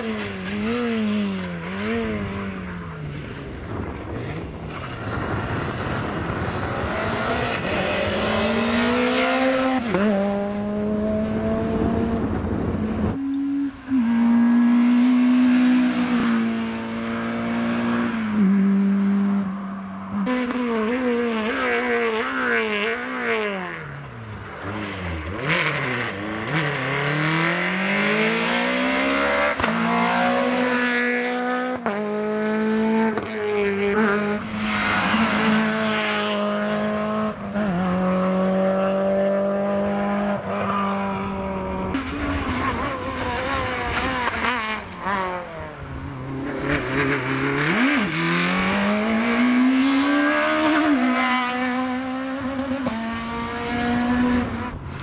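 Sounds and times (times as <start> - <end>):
rally cars revving past: 0.0 - 55.0.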